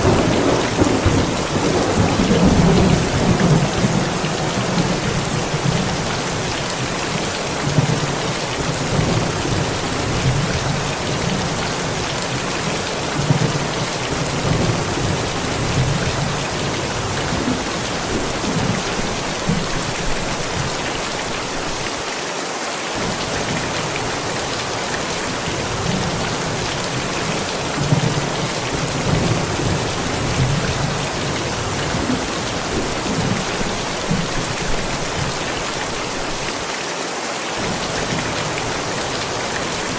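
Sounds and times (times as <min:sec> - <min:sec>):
thunder rumbling: 0:00.0 - 0:21.8, 0:23.0 - 0:36.4
steady rain: 0:00.0 - 0:39.9.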